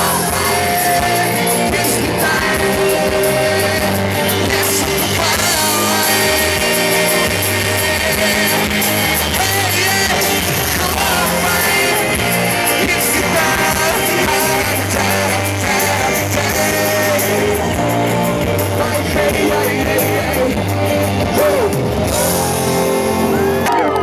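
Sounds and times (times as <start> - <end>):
live rock band playing: 0.0 - 24.0
person singing: 0.0 - 24.0.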